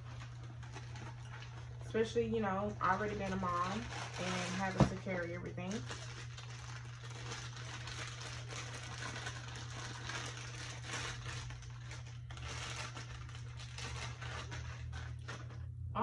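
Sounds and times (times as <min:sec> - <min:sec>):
plastic wrapping crinkling: 0:00.0 - 0:15.7
constant low hum: 0:00.0 - 0:16.0.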